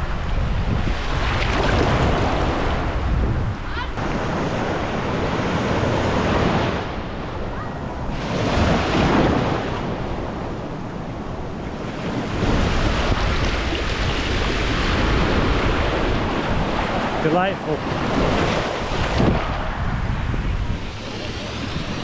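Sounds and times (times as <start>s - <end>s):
ocean surf breaking: 0.0s - 22.0s
wind rumbling on microphone: 0.0s - 22.0s.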